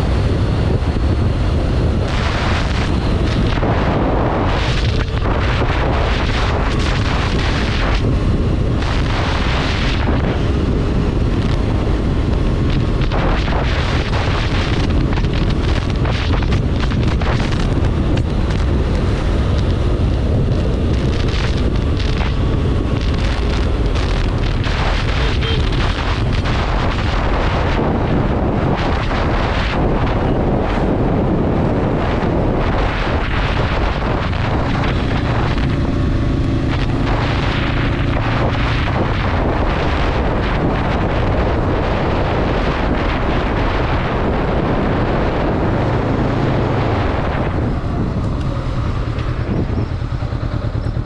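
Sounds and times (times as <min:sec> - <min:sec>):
road and engine rumble: 0:00.0 - 0:51.0
wind buffeting microphone: 0:00.0 - 0:51.0.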